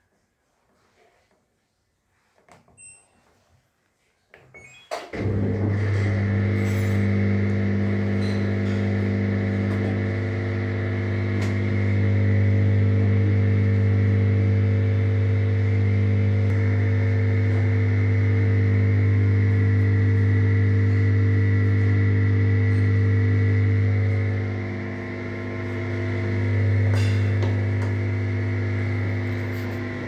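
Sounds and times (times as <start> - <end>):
washing machine humming: 5.2 - 30.0.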